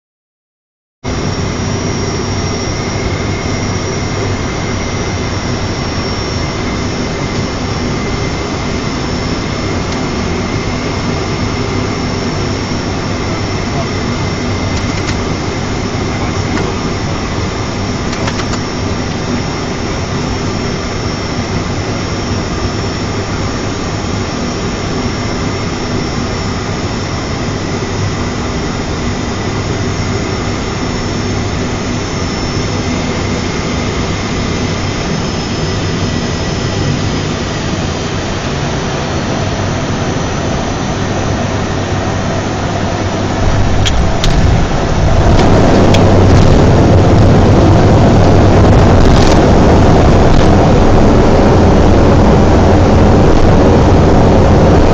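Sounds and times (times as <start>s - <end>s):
high engine whine: 1.0s - 54.9s
turboprop engines droning: 1.0s - 54.9s.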